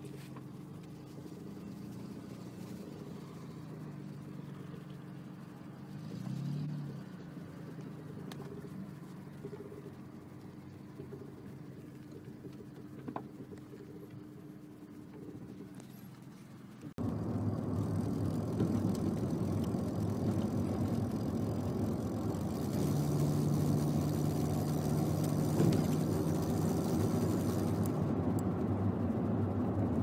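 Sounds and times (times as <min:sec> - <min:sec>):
car engine running: 0:00.0 - 0:30.0
engine blowing noise: 0:00.0 - 0:30.0
steady hum with hiss: 0:00.0 - 0:30.0.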